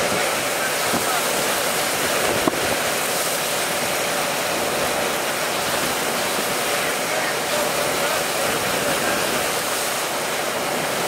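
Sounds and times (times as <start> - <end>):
heavy rain: 0.0 - 11.0
hurricane wind: 0.0 - 11.0.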